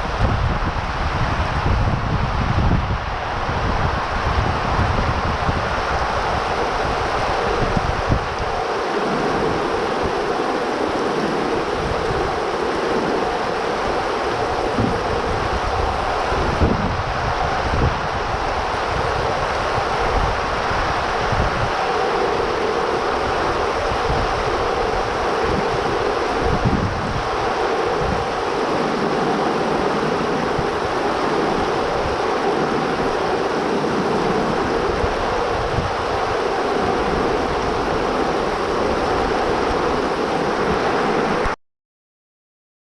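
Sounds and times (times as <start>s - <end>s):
heavy rain pouring: 0.0s - 41.6s
wind buffeting microphone: 0.0s - 41.6s.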